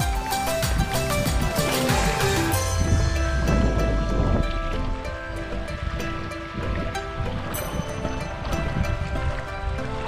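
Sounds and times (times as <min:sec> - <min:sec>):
background music with held tones: 0:00.0 - 0:10.0.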